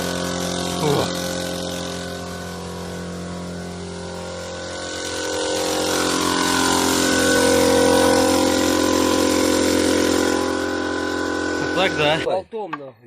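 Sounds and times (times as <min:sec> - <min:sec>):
motor running: 0:00.0 - 0:12.3.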